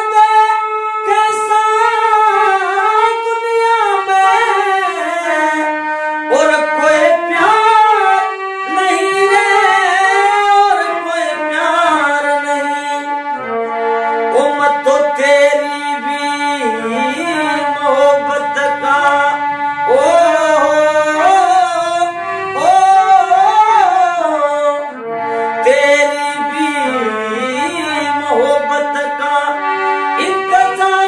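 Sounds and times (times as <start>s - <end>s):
harmonium: 0.0s - 31.0s
man singing: 0.0s - 31.0s.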